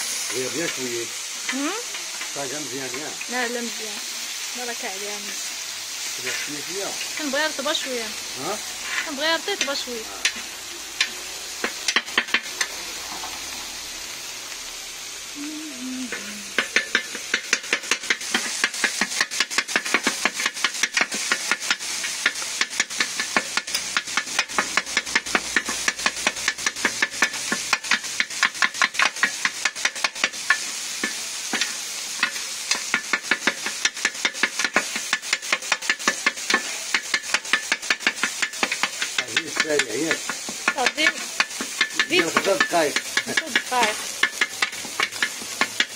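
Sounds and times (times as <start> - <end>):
meat sizzling on a griddle: 0.0 - 45.9.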